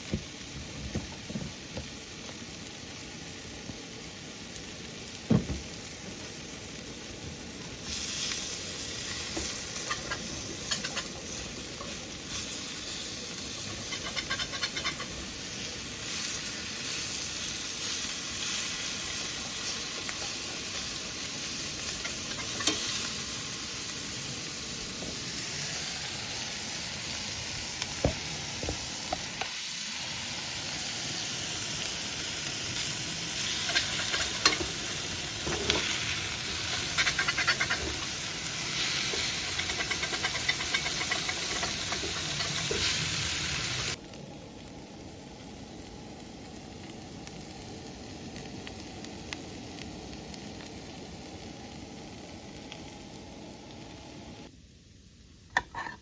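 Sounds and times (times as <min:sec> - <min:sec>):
sizzling hiss: 0:00.0 - 0:56.0.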